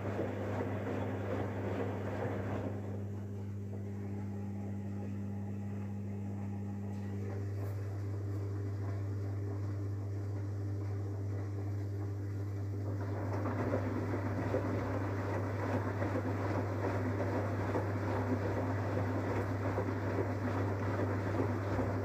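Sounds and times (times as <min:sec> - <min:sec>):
washing machine drum churning: 0:00.0 - 0:22.0.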